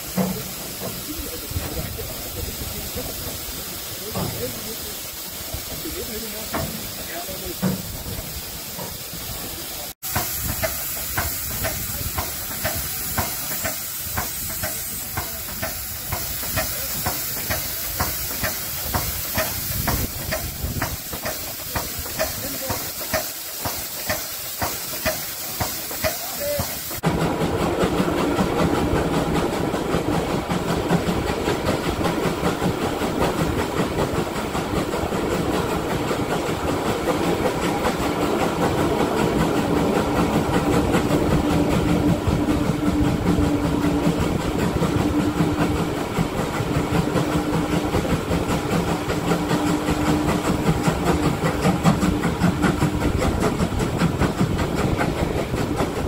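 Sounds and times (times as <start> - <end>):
steam hissing from locomotive: 0.0 - 56.0
steam puffs: 0.0 - 56.0
train wheels clattering on track: 0.0 - 56.0.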